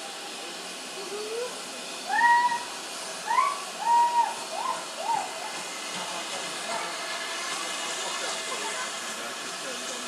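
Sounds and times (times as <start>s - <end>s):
steam hissing: 0.0s - 10.0s.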